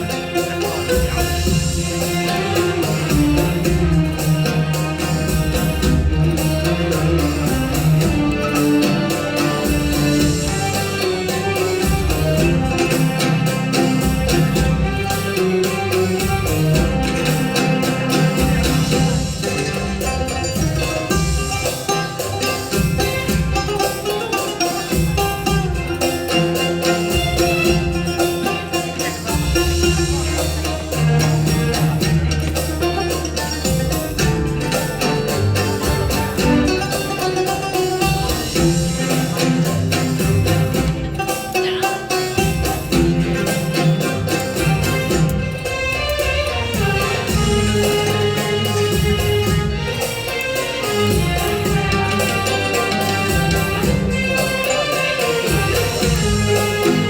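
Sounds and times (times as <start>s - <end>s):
held low notes: 0.0s - 23.9s, 24.9s - 41.5s, 42.3s - 57.0s
hand percussion: 0.0s - 57.0s
plucked string notes: 0.0s - 57.0s.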